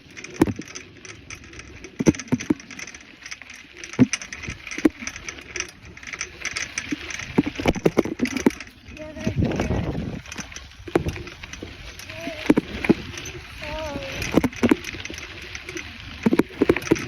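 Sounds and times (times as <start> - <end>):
bicycle rattling: 0.0 - 17.0.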